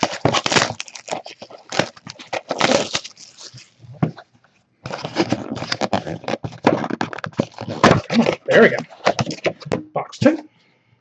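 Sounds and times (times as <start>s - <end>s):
cards and card boxes handled: 0.0s - 10.4s.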